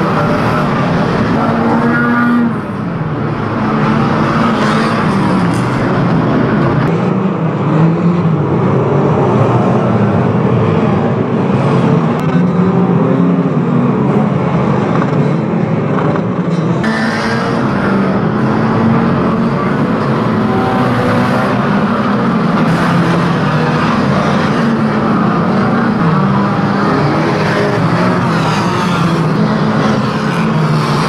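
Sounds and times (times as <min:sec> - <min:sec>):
racing car engines revving: 0:00.0 - 0:31.0.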